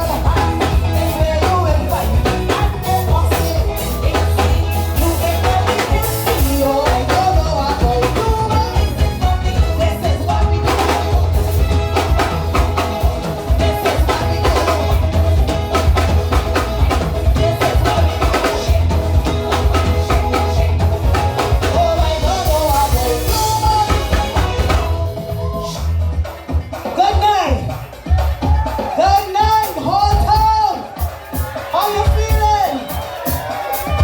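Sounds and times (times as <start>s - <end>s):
loud soca music: 0.0s - 34.0s
person singing: 0.0s - 34.0s.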